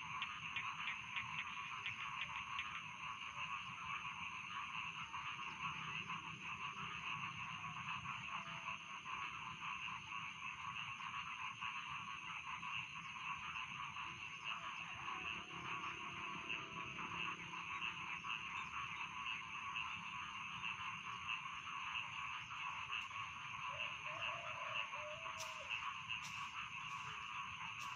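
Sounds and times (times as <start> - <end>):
frogs croaking: 0.0 - 27.9.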